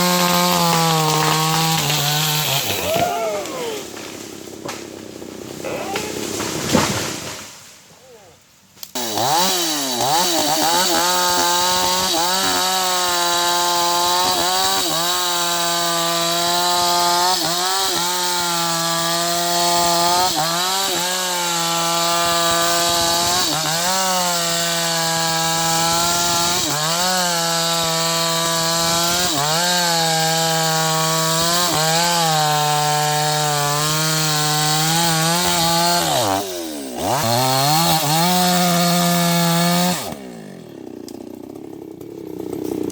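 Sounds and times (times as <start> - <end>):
chainsaw cutting wood: 0.0 - 7.7, 8.8 - 42.9.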